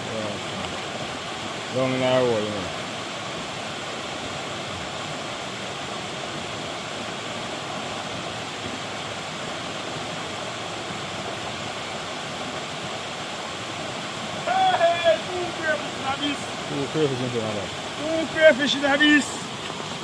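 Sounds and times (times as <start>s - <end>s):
river and waterfall rushing: 0.0s - 20.0s.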